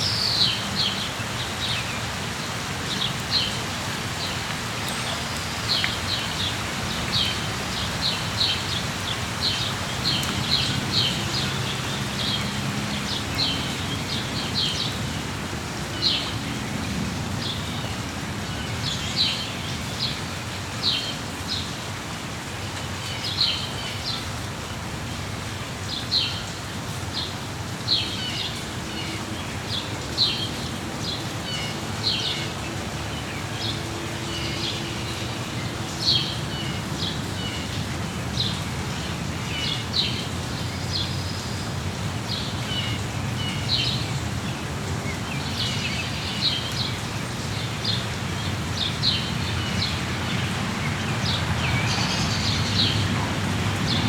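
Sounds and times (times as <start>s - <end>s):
songbirds chirping: 0.0s - 21.9s, 22.6s - 54.0s
rain falling: 0.0s - 54.0s.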